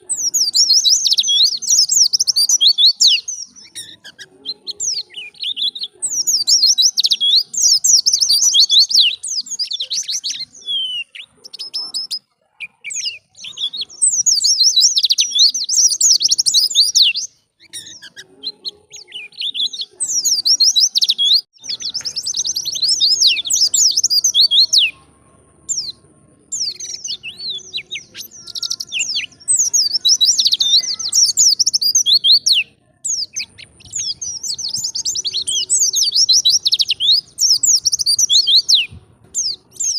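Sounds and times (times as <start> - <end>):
bird twittering: 0.0 - 25.0, 25.7 - 39.9.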